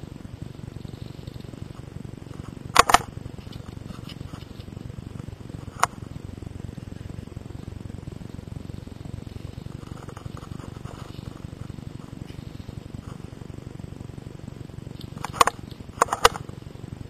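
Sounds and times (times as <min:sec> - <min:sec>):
low rumble of movement and wind: 0:00.0 - 0:17.0.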